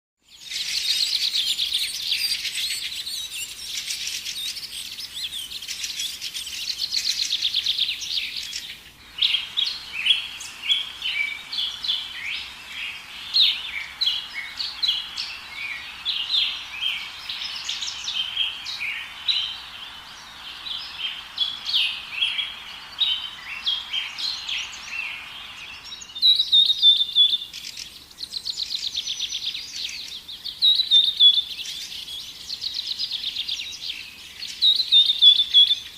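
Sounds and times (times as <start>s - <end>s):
songbirds chirping and trilling: 0.2s - 35.9s.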